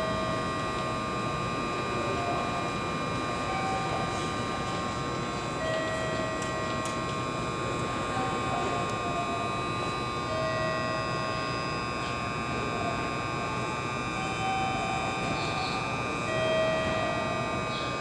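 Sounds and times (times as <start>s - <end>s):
electric train whine and hum: 0.0s - 18.0s.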